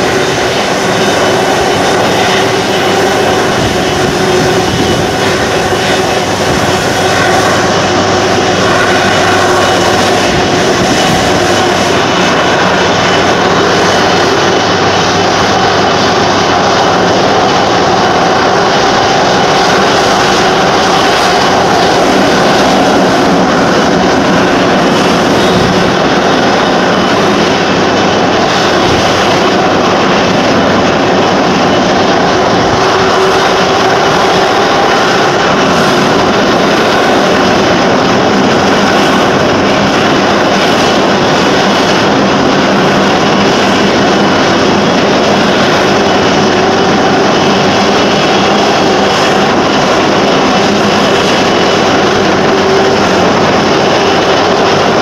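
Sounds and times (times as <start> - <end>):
jet engines whining and roaring: 0.0 - 55.0.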